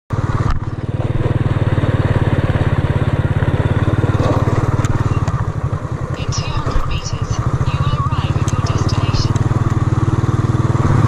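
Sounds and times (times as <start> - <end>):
small engine running: 0.1 - 11.0.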